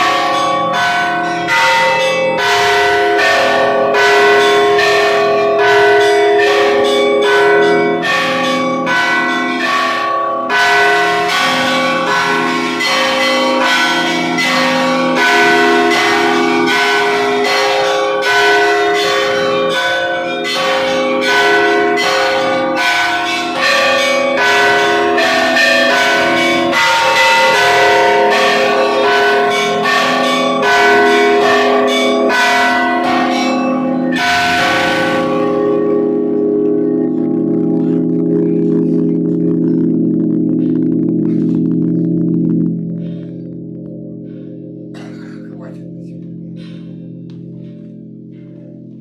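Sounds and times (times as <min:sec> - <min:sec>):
church bells ringing: 0:00.0 - 0:49.0.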